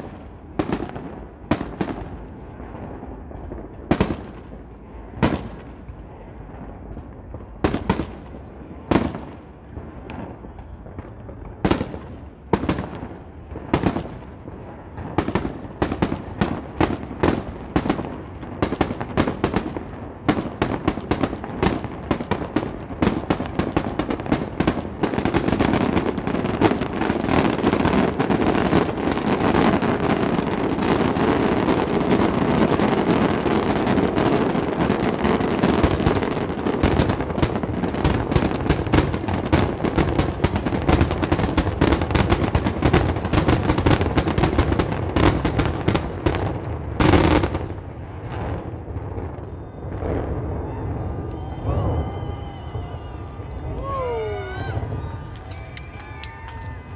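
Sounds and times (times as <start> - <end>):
fireworks banging and crackling: 0.0 - 56.9.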